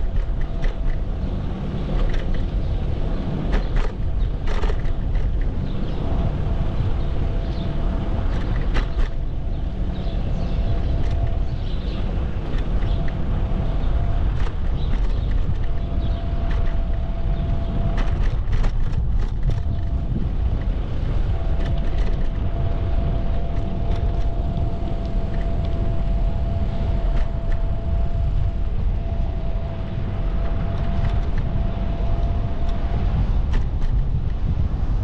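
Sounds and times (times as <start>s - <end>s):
bicycle rumble on pavement: 0.0s - 35.0s
faint steady whine: 0.0s - 35.0s
light clicks and rattles: 0.0s - 35.0s
wind buffeting microphone: 0.0s - 35.0s.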